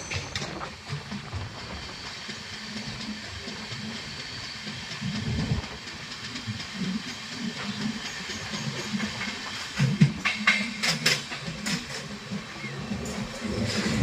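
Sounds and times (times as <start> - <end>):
low train rumbles: 0.0 - 14.0
train wheels on rails: 0.0 - 14.0.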